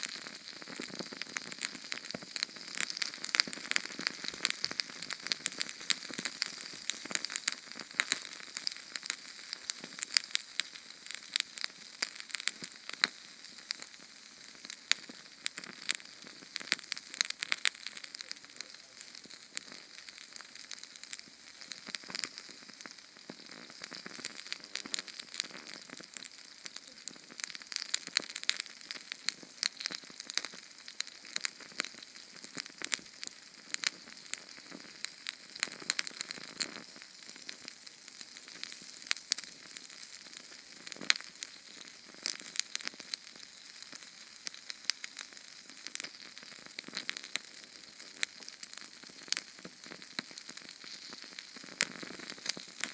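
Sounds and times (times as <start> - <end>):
canned fuel flame hissing and crackling: 0.0 - 52.9.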